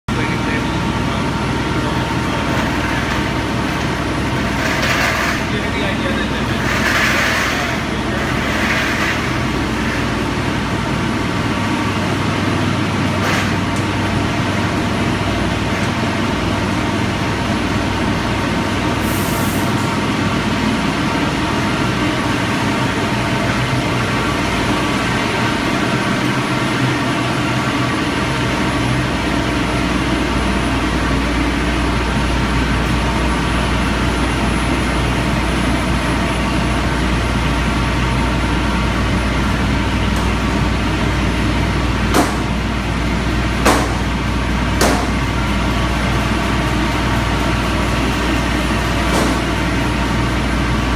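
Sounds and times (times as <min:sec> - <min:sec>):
conveyor machinery din: 0:00.1 - 0:50.9.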